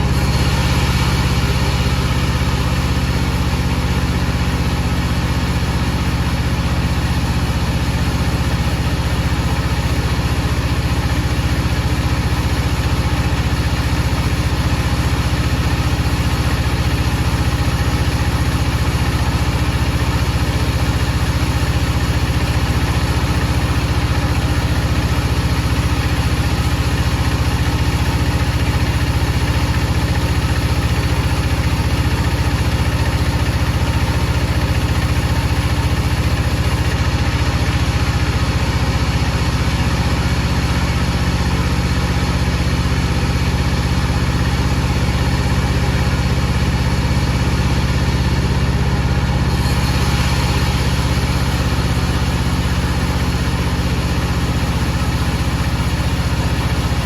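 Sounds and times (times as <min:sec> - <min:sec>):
power saw running: 0:00.0 - 0:57.0.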